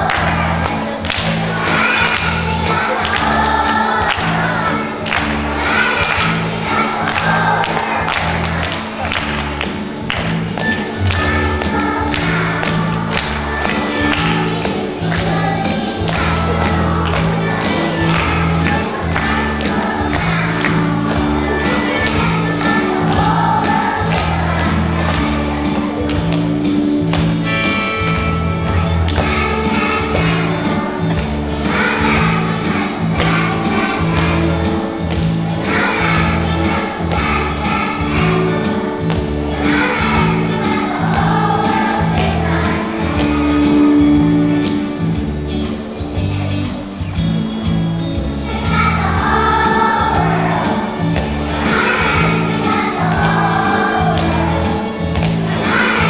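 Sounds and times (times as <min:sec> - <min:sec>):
backing track with steady beat: 0:00.0 - 0:56.0
children singing: 0:00.0 - 0:56.0.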